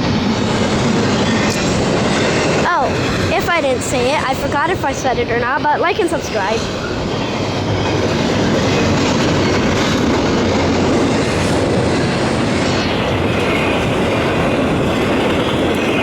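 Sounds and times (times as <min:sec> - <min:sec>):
fast train passing: 0:00.0 - 0:16.0.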